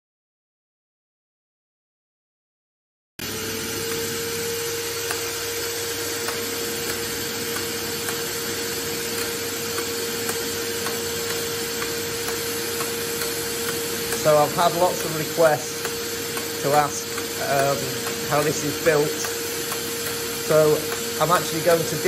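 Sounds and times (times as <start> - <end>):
vacuum cleaner whining: 3.2 - 22.0.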